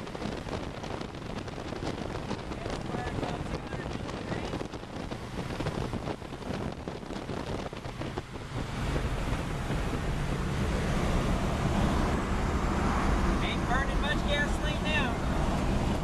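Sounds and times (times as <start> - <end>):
wind and road noise in cab: 0.0 - 16.0.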